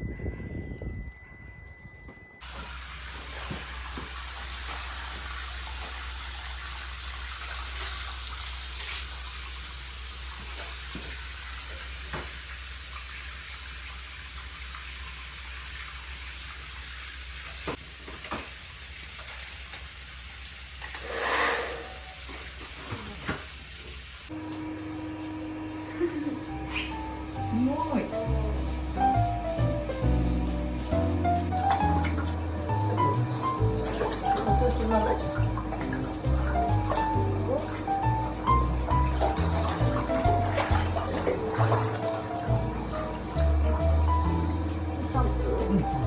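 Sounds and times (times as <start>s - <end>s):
water running: 2.4s - 46.0s.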